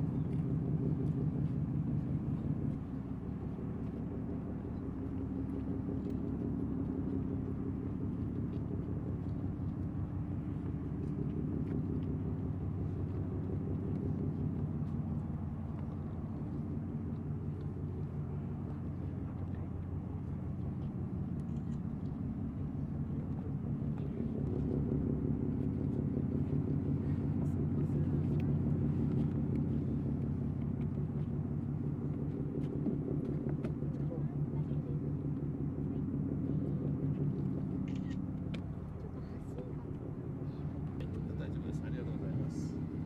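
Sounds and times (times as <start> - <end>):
ship diesel engine drone: 0.0 - 43.0.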